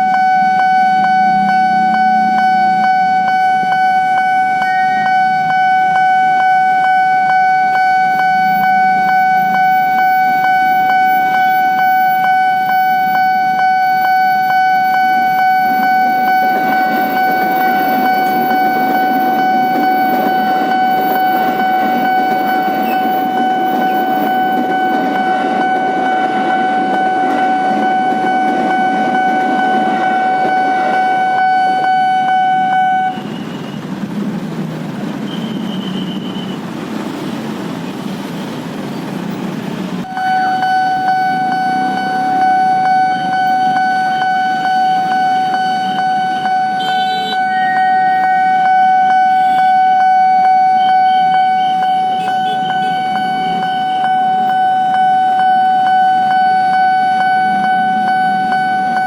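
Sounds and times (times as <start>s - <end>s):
level crossing alarm tone: 0.0s - 33.9s, 40.0s - 59.0s
rail and road traffic rumble: 0.0s - 59.0s.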